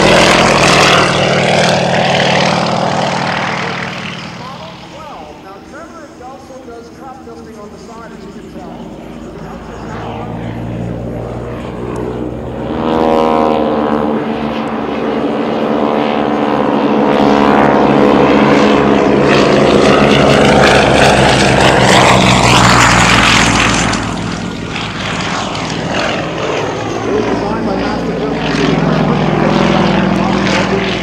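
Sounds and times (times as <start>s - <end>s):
propeller plane engine at high power: 0.0s - 31.0s.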